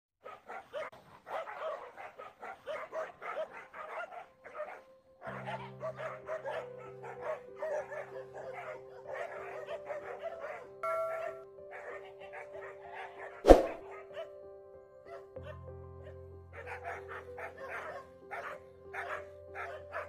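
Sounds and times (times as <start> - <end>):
dogs barking and yelping: 0.2 - 14.4, 15.0 - 20.0.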